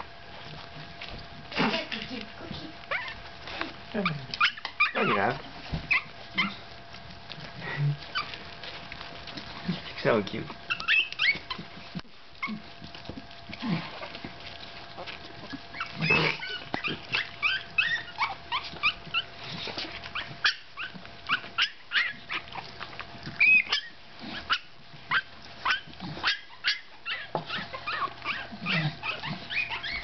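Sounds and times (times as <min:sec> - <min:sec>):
puppies squeaking and whimpering: 0:00.0 - 0:30.0.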